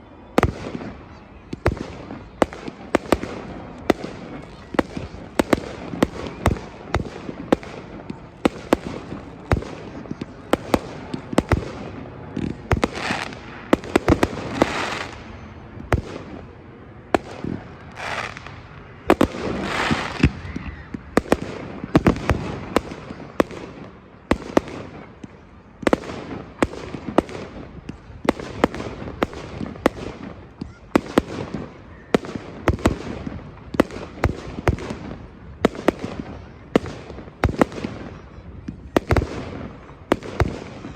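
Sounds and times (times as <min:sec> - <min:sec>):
fireworks rushing: 0:00.0 - 0:40.9
fireworks bangs: 0:00.3 - 0:40.9.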